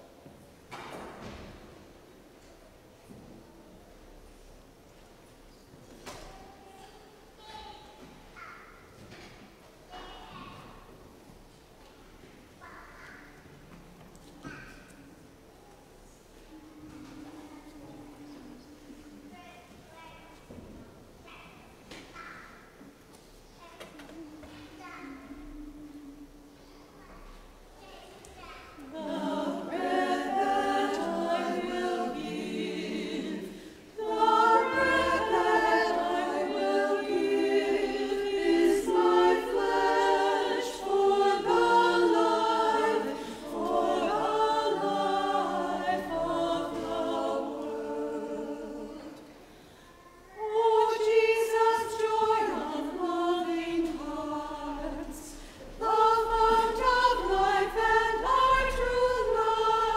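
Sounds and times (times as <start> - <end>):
choir singing a hymn: 0.0 - 6.6, 13.2 - 19.8, 23.9 - 27.7, 28.7 - 59.9.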